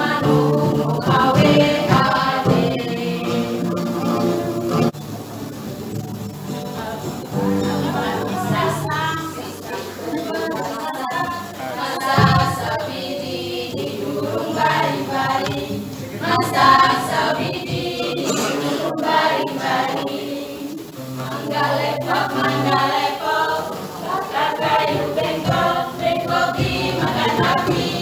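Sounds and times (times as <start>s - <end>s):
small choir singing: 0.0s - 5.5s, 6.2s - 28.0s.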